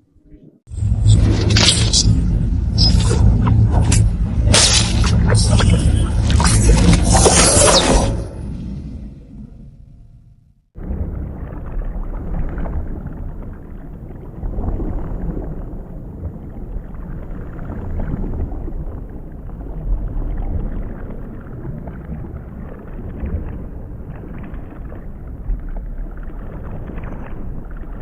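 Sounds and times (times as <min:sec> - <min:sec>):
underwater churning rumble: 0:00.7 - 0:28.0.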